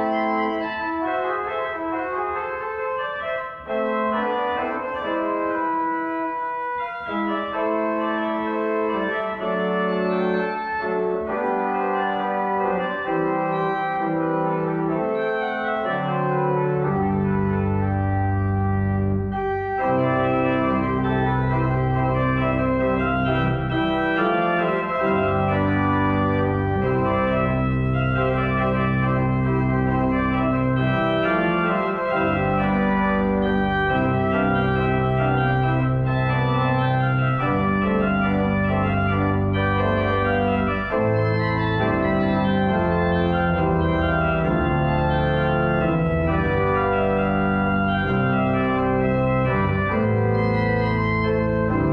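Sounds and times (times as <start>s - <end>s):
organ playing chords: 0.0s - 51.9s.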